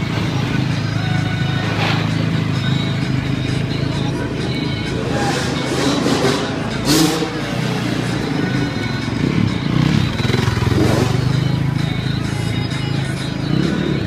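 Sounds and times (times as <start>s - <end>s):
background music: 0.0s - 14.0s
dirt bike engines revving: 0.0s - 14.0s.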